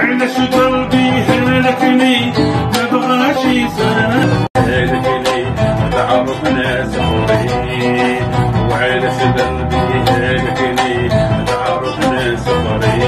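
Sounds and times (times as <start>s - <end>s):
oud plucked: 0.0s - 13.0s.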